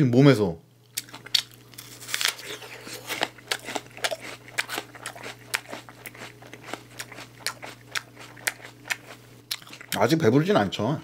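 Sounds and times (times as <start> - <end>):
person chewing apple: 0.9 - 10.0.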